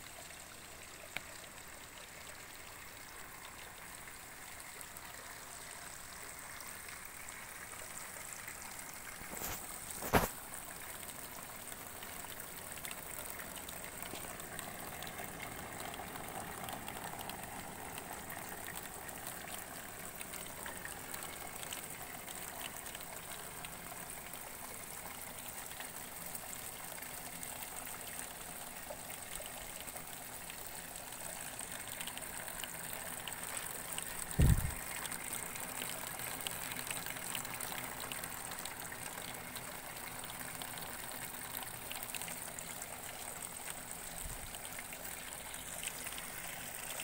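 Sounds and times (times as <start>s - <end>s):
water trickling through channels: 0.0s - 47.0s.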